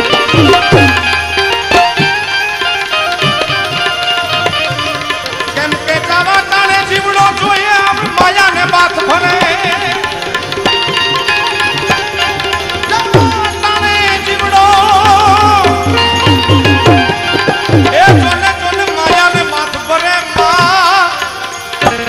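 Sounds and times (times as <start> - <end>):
harmonium sustained notes: 0.0 - 22.0
tabla strokes: 0.0 - 22.0.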